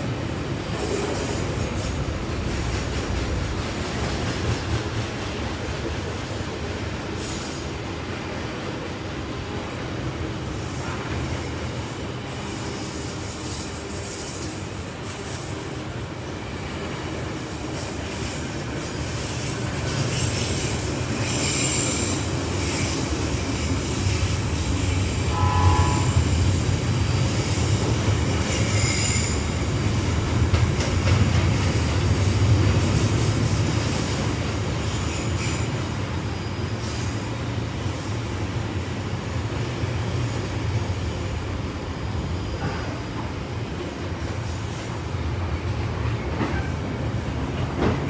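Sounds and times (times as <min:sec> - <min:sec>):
train wagons rumbling on rails: 0:00.0 - 0:48.0.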